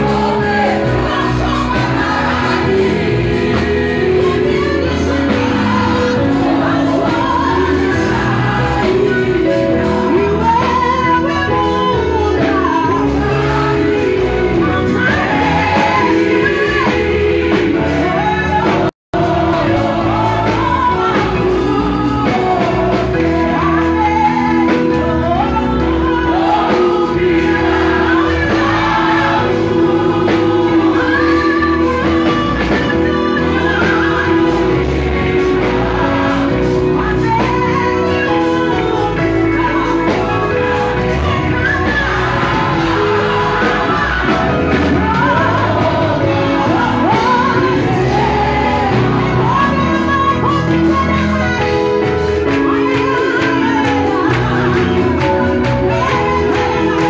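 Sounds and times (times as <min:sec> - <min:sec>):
musical accompaniment: 0:00.0 - 0:57.0
singers joining in: 0:00.0 - 0:57.0
woman singing into microphone: 0:00.0 - 0:57.0.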